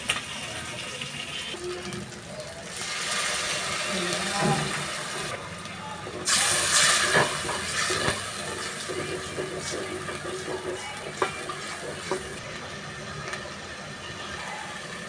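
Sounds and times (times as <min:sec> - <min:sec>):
water sizzling in hot oil: 0:00.0 - 0:15.0.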